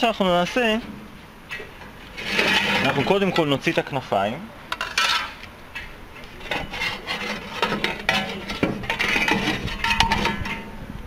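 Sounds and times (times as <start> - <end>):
metal fan blades scraping: 0.8 - 4.1, 4.7 - 10.9.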